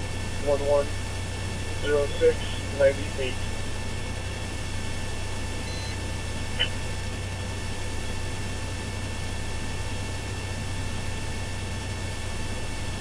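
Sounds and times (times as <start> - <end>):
police radio hiss and hum: 0.0 - 13.0.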